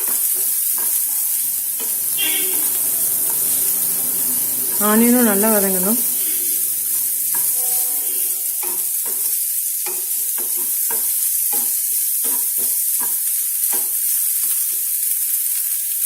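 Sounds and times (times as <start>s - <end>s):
stirring in a pan: 0.0s - 14.2s
onion sizzling in a pan: 0.0s - 16.0s.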